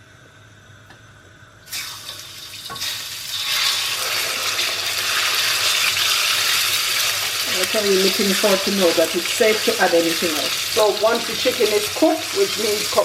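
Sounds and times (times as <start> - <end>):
chicken sizzling in hot oil: 1.7 - 13.0.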